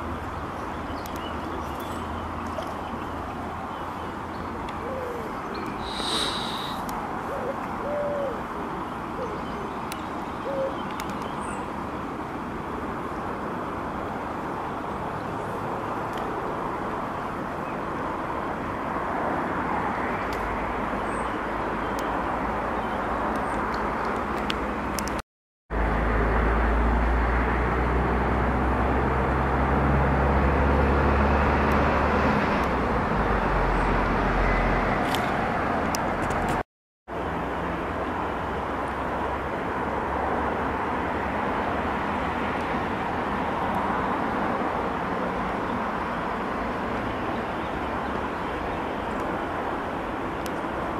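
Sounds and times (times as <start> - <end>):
outdoor background noise: 0.0 - 50.9.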